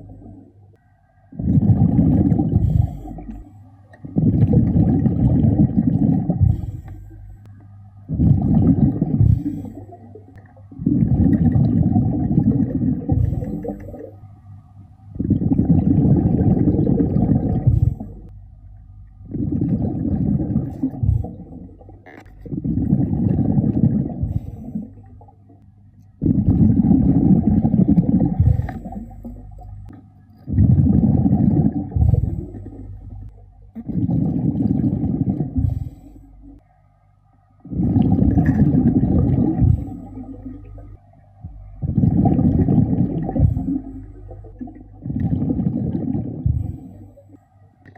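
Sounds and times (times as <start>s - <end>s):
underwater regulator bubbling: 0.0s - 0.6s, 1.3s - 36.6s, 37.6s - 47.9s.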